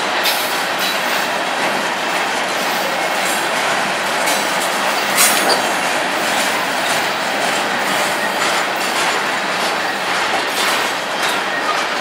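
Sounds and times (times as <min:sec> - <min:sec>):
freight train rolling past: 0:00.0 - 0:12.0
wheels clicking over rail joints: 0:00.2 - 0:12.0.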